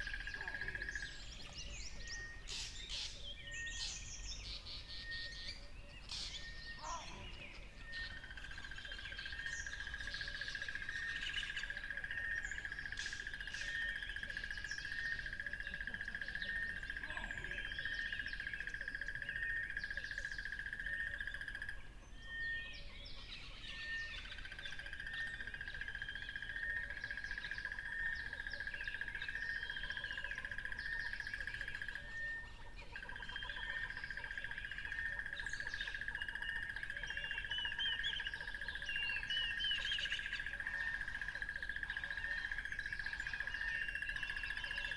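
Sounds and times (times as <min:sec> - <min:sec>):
birds chirping and singing: 0:00.0 - 0:44.9.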